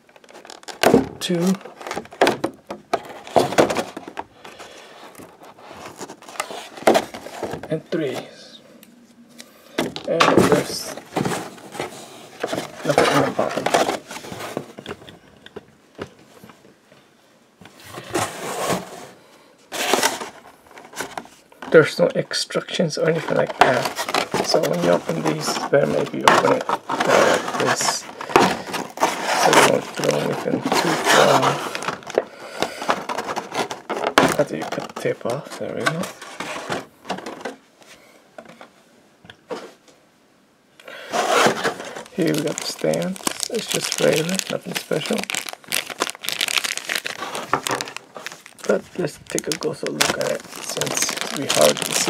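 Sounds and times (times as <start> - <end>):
plastic crinkling and rustling: 0.0 - 8.3, 9.8 - 16.7, 17.6 - 38.7, 41.1 - 52.0.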